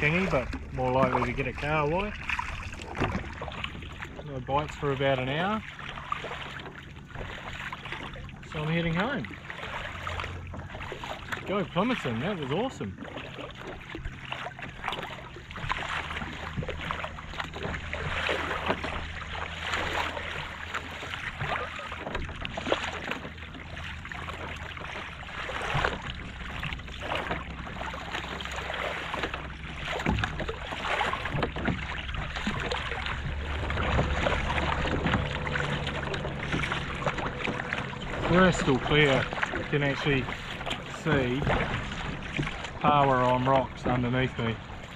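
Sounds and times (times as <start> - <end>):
paddle splashing into water: 0.0 - 44.9
water sloshing along hull: 0.0 - 44.9.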